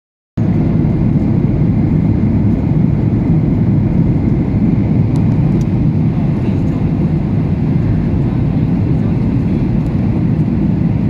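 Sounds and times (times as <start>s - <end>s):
airliner engines rumbling: 0.4s - 11.0s.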